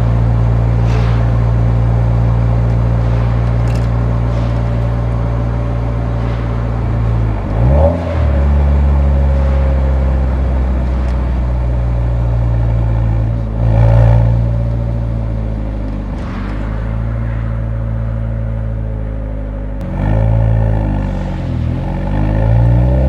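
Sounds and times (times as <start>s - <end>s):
car exhaust while driving: 0.0s - 23.0s.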